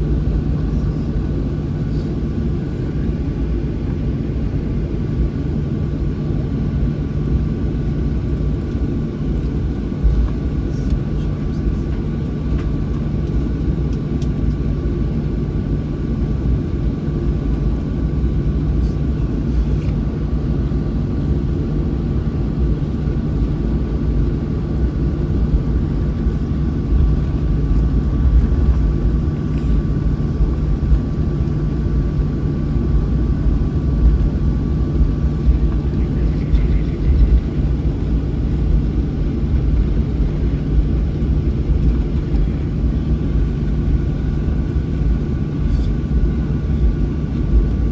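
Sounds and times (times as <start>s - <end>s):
jet engines idling: 0.0s - 47.9s.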